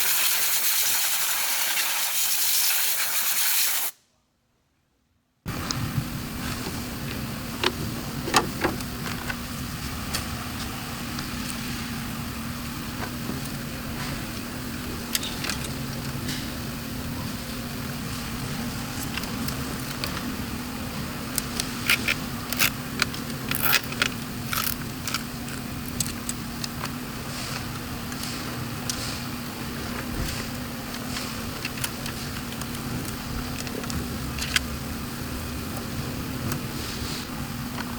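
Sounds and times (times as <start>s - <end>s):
steady hum: 5.5s - 37.9s.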